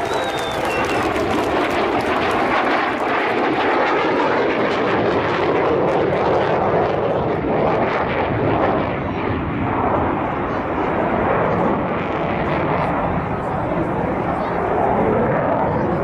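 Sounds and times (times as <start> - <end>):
aircraft flying past: 0.0 - 16.0.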